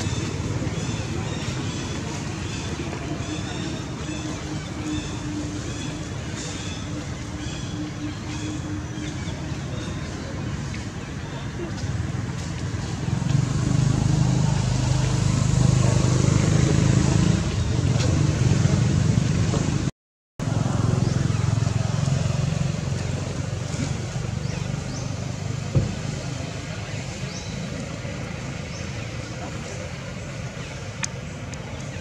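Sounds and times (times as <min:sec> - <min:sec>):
engine rumbling: 0:00.0 - 0:32.0.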